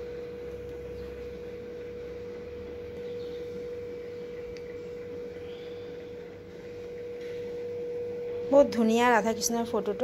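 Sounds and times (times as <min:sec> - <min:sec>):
steady single-pitched hum: 0:00.0 - 0:10.0.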